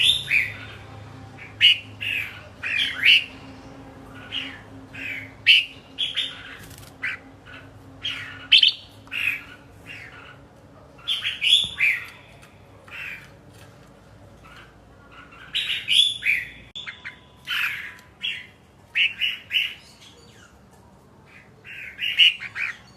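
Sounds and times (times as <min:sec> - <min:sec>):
bird squawks and chirps: 0:00.0 - 0:13.4, 0:14.4 - 0:20.6, 0:21.3 - 0:22.9.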